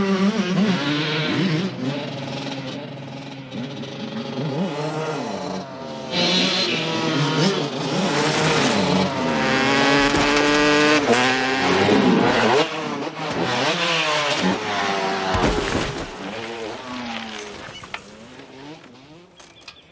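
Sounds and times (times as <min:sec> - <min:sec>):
dirt bike engines revving: 0:00.0 - 0:19.9.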